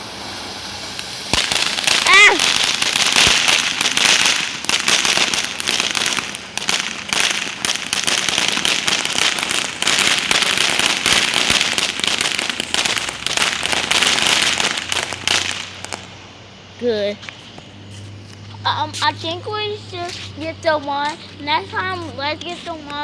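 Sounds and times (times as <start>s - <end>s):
firework hissing and crackling: 0.0s - 23.0s.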